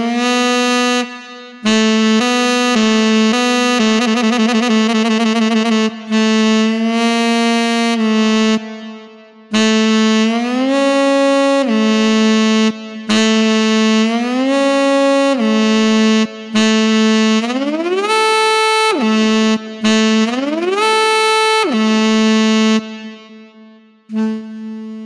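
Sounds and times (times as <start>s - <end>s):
synthesized saxophone sliding notes: 0.0s - 25.0s.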